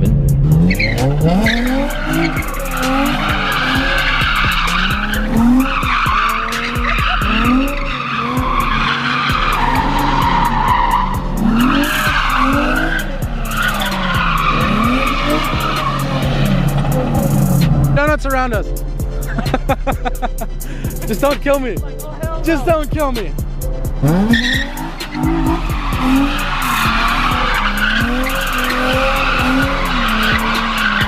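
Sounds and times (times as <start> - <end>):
car engine revving: 0.0 - 31.0
tyres screeching: 0.5 - 18.1, 23.4 - 31.0.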